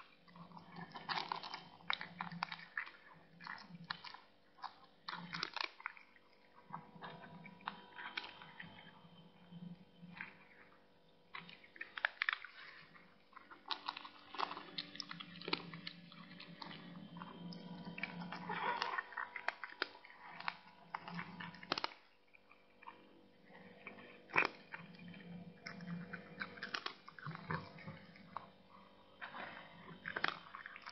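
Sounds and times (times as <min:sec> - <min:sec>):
cat chewing and crunching: 0:00.0 - 0:30.9.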